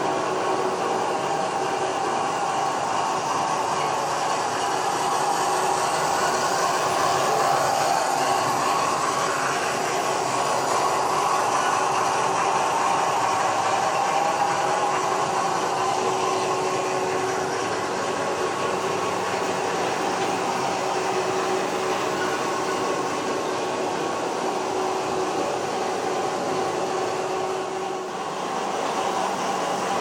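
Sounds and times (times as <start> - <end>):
model train motors whirring: 0.0 - 30.0.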